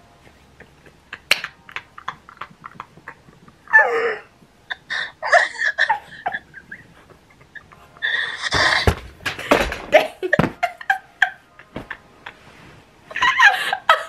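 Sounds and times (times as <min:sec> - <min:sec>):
women laughing: 0:00.2 - 0:08.9, 0:09.9 - 0:14.0.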